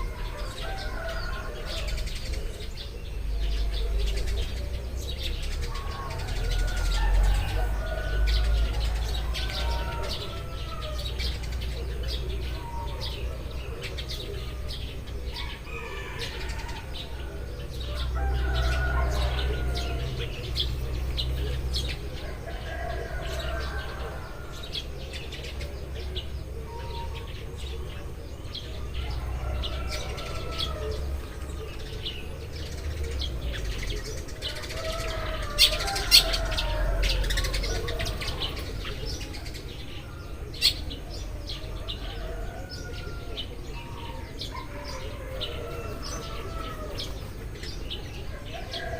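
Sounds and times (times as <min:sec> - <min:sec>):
sparrows chirping: 0:00.0 - 0:48.9.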